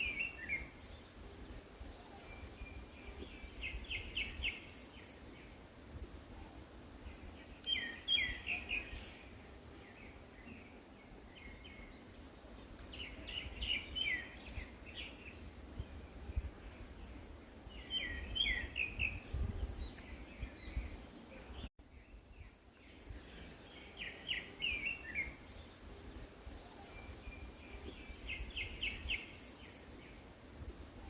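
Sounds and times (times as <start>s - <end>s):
songbird chirping: 0.0s - 31.0s.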